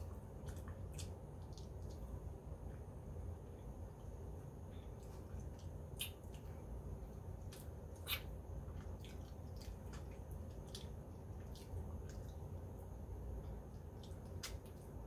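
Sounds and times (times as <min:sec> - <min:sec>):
wet chewing and lip smacks: 0:00.0 - 0:02.8, 0:04.8 - 0:12.6, 0:13.4 - 0:15.0
low steady hum: 0:00.0 - 0:15.0.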